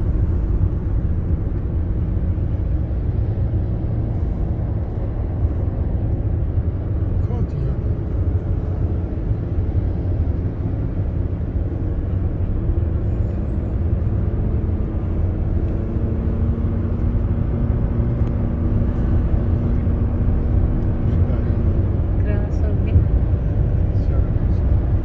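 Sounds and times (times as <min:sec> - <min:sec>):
tyre and engine rumble in car: 0:00.0 - 0:25.0.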